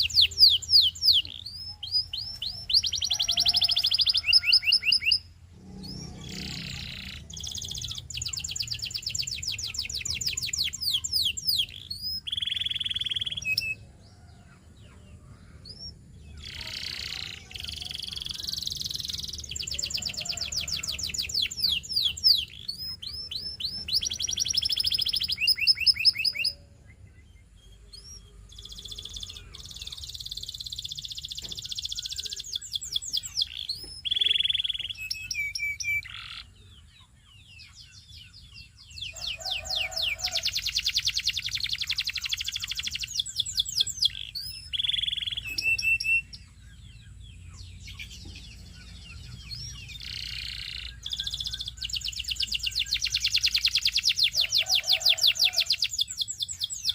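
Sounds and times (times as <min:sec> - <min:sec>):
canary singing trills: 0:00.0 - 0:56.9.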